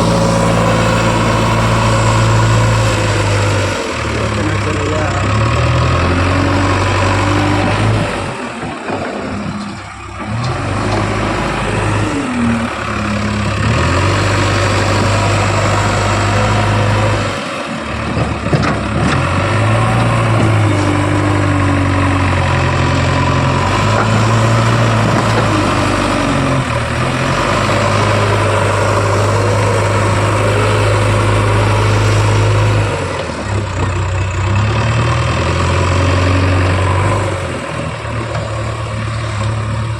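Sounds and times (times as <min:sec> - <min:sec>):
diesel backhoe engine working: 0:00.0 - 0:39.9.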